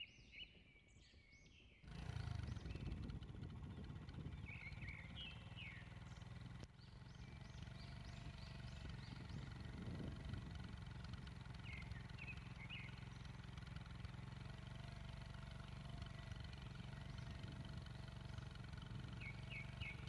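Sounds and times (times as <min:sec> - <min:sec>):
vehicle engine idling: 0:01.8 - 0:20.0.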